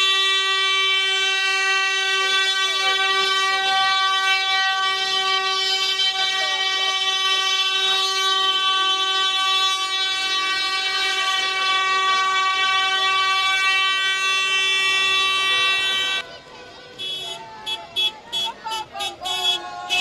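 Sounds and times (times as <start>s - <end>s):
long horn blast: 0.0s - 16.3s
lower horn: 0.0s - 16.3s.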